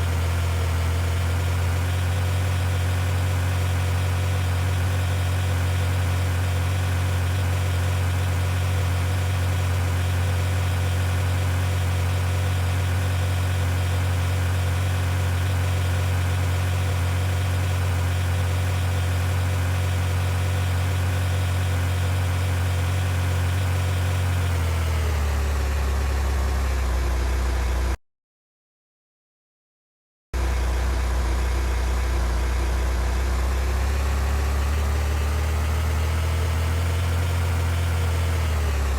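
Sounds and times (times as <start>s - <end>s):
car engine running: 0.0s - 28.0s, 30.4s - 38.9s.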